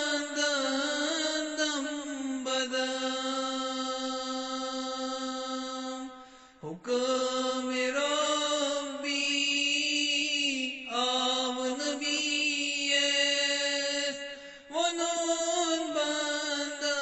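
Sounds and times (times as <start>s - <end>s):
person chanting devotional verse: 0.0s - 17.0s.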